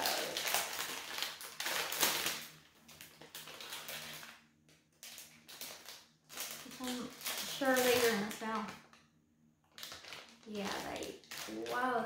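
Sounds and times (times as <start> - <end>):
packaging crinkling: 0.0 - 9.0, 9.6 - 12.0.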